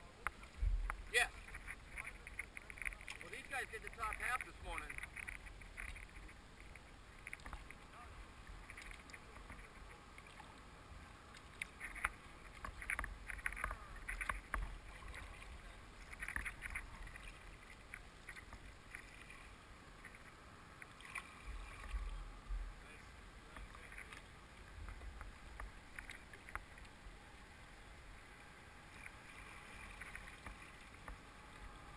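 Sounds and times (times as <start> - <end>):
low steady rumble: 0.0 - 31.9
water splashing at boat bow: 0.1 - 31.9.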